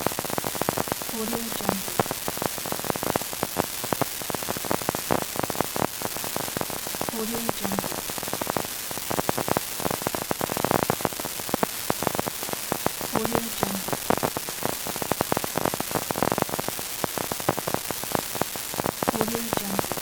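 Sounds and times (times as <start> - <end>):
vinyl record crackle: 0.0 - 20.0.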